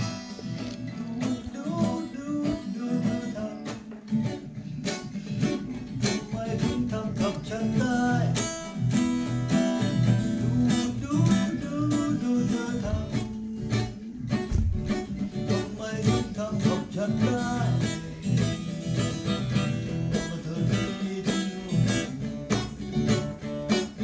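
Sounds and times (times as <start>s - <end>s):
strummed acoustic guitar music: 0.0s - 24.0s.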